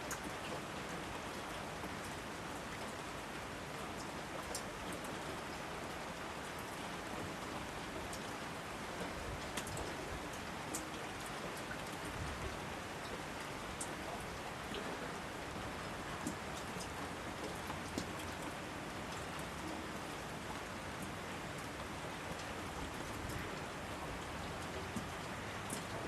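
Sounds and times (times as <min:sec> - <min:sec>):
steady rainfall hiss: 0:00.0 - 0:26.0.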